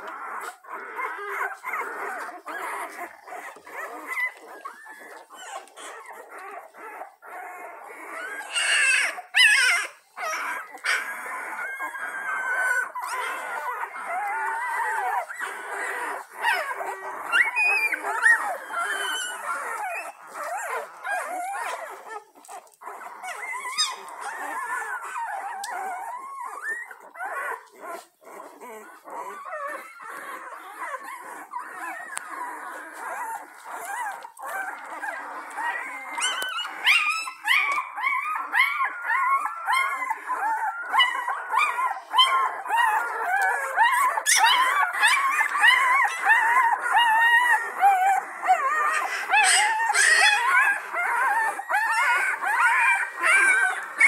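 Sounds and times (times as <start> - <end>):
puppies whining and squeaking: 0.0 - 54.0.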